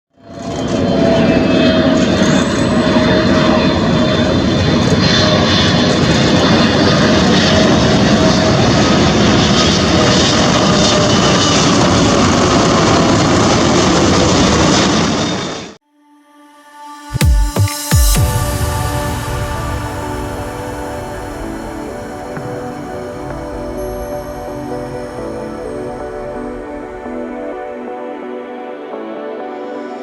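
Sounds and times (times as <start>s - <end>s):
jet engines roaring: 0.2s - 15.8s, 18.2s - 29.0s.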